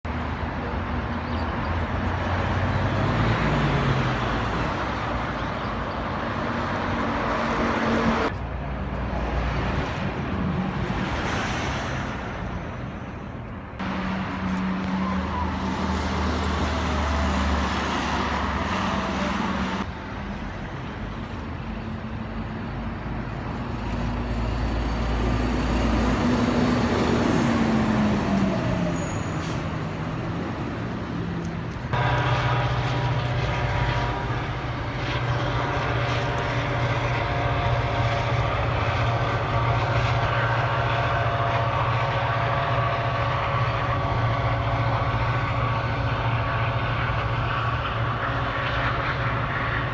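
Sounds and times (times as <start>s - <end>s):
vehicle engines passing: 0.1s - 49.9s.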